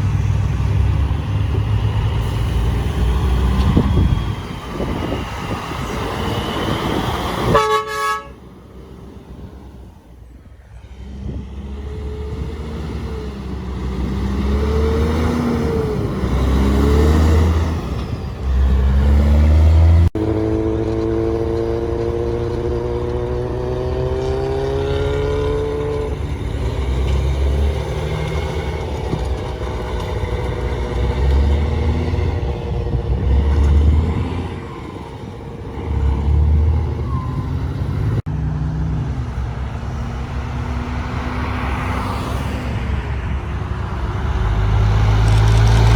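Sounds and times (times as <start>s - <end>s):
diesel truck engines revving: 0.0s - 45.9s.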